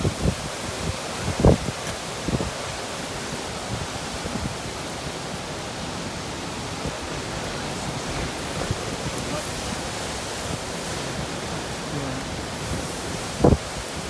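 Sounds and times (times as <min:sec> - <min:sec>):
gusts buffeting microphone: 0:00.0 - 0:14.0
hurricane wind rushing: 0:00.0 - 0:14.0.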